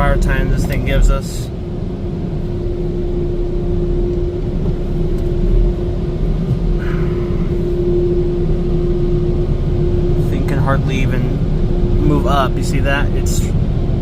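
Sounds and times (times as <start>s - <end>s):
car wash dryer blowers: 0.0s - 14.0s.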